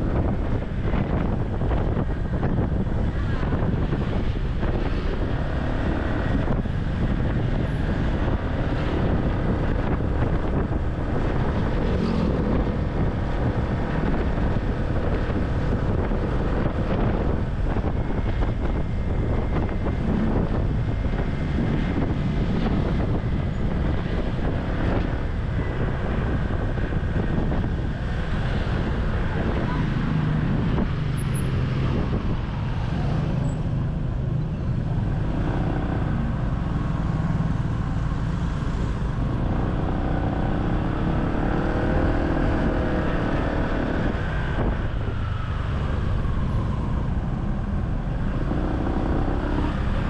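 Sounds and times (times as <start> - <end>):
road noise: 0.0 - 50.0
wind buffeting microphone: 0.0 - 50.0.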